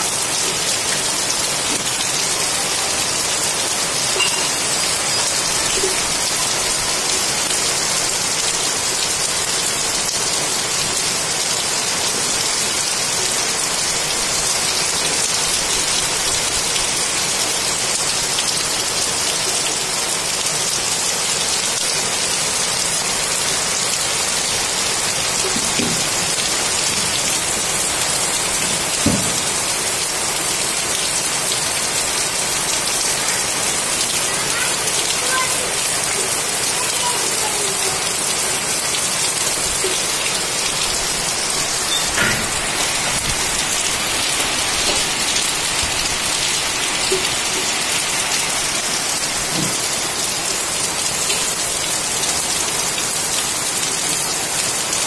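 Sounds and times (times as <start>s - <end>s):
heavy rain splashing into water: 0.0s - 55.0s.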